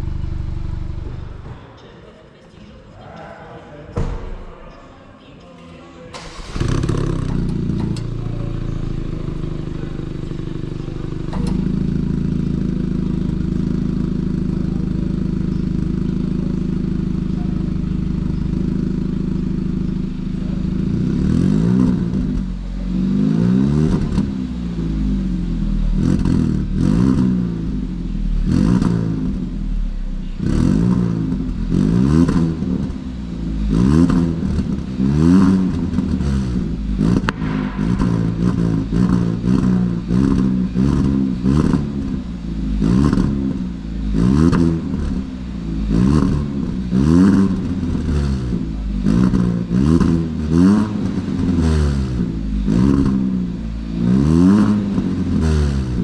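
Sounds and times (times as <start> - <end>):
car engine idling: 0.0 - 1.6, 6.1 - 56.0
engine revving: 6.2 - 14.6, 18.0 - 29.8, 30.4 - 56.0.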